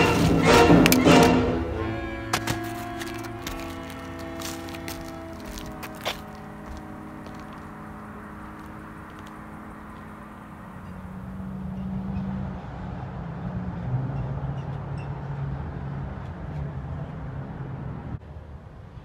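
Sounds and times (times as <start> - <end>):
street noise: 0.0 - 19.0
vehicle engine hum: 0.0 - 19.0.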